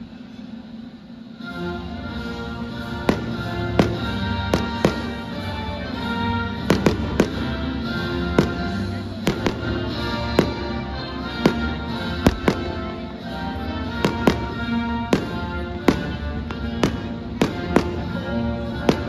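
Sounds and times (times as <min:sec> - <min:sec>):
music with sustained notes: 0:01.1 - 0:19.0
fireworks exploding: 0:02.1 - 0:19.0.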